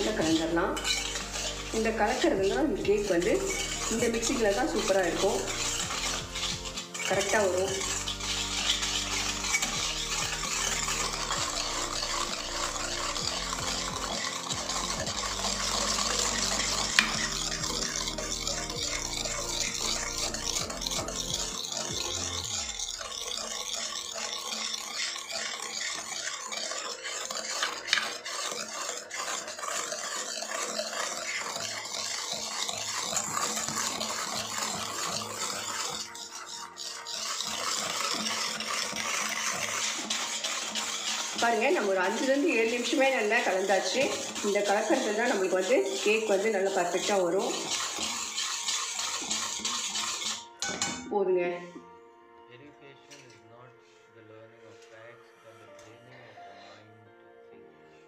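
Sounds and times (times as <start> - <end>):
whisk beating batter in metal bowl: 0.0 - 51.7.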